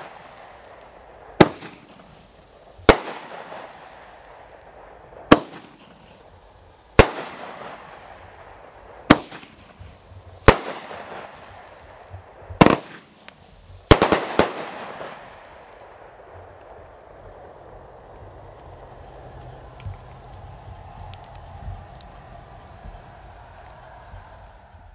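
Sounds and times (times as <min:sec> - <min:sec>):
crackling firework stars: 0:00.0 - 0:24.9
firework shells bursting: 0:00.0 - 0:24.9.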